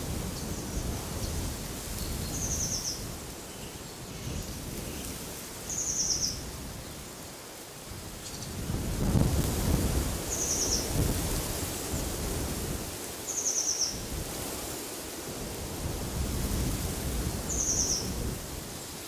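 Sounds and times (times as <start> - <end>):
wind gusts: 0.0 - 19.0.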